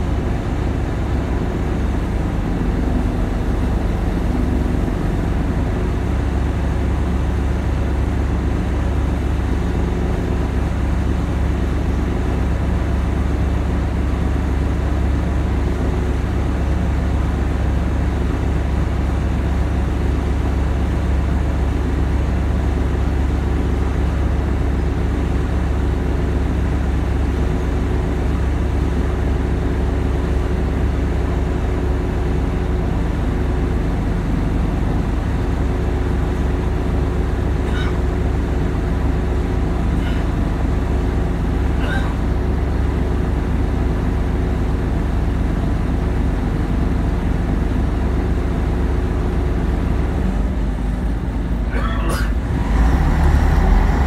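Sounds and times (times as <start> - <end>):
bus engine idling: 0.0 - 54.0.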